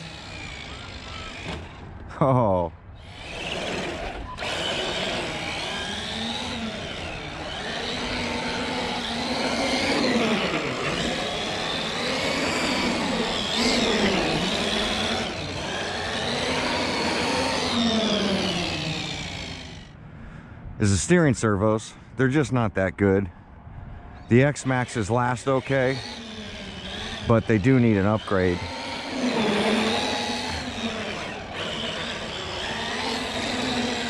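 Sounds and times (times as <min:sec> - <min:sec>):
electric toy truck motor whining: 0:00.0 - 0:01.9, 0:03.0 - 0:19.9, 0:24.4 - 0:34.0.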